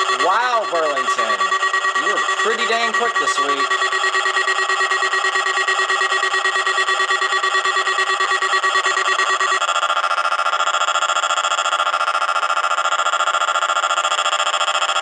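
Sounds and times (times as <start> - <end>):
fast-pulsing electronic alarm beeping: 0.0 - 15.0.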